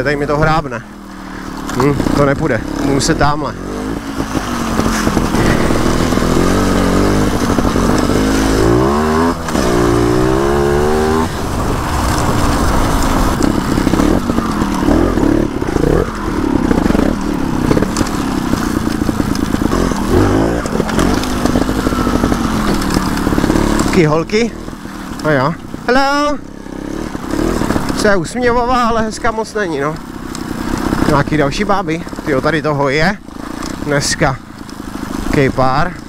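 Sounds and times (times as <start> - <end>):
two-stroke motorcycle engine revving: 0.0 - 36.0.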